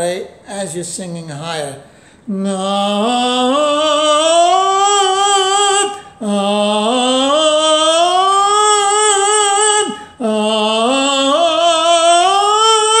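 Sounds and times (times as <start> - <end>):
man singing rising vowel exercise: 0.0 - 13.0.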